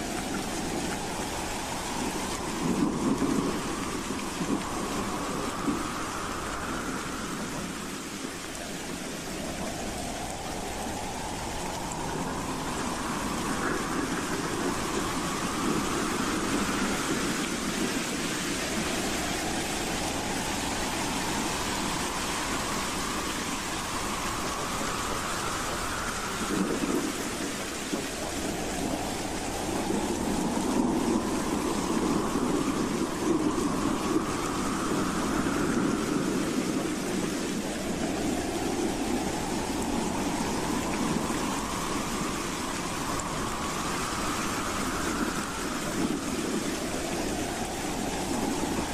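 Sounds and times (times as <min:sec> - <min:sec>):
howling wind: 0:00.0 - 0:48.9
rising wind whistles: 0:00.0 - 0:48.9.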